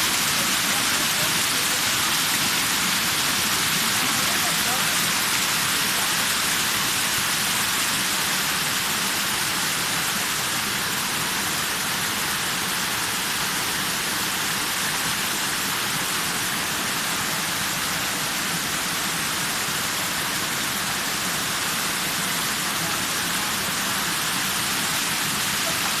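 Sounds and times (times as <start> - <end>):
waterfall hiss: 0.0 - 26.0.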